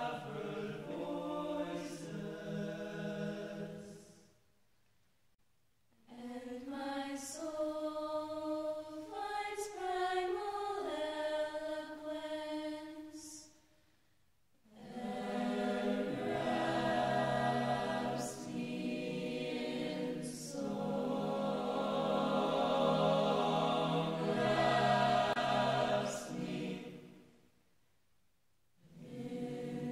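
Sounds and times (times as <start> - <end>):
choir singing held chords: 0.0 - 4.3, 6.1 - 13.4, 14.7 - 27.5, 28.8 - 29.9.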